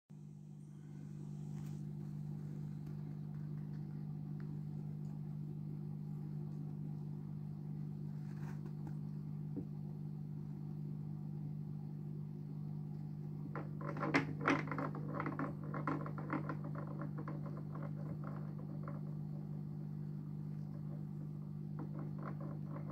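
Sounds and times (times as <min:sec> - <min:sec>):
aquarium equipment humming: 0:00.1 - 0:22.9.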